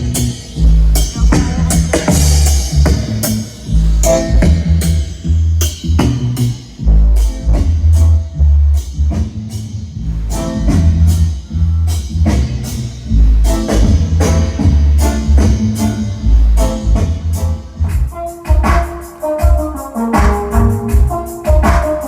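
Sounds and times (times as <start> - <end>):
loud bass-heavy rock music: 0.0 - 22.0.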